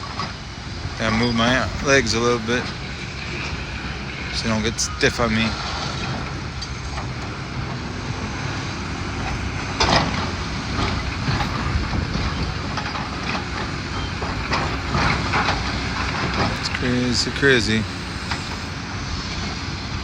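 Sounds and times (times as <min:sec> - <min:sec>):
demolition machinery running: 0:00.0 - 0:20.0.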